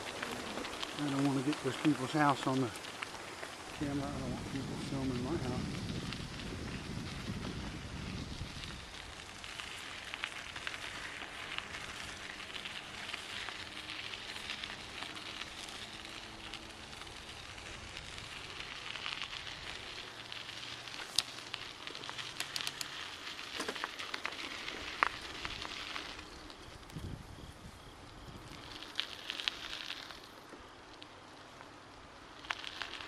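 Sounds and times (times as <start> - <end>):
bicycle tyres on gravel: 0.0 - 33.0.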